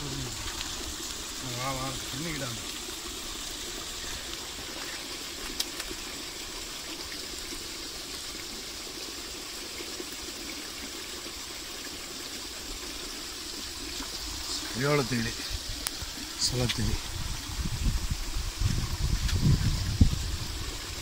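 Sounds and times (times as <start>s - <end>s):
water running: 0.0s - 21.0s.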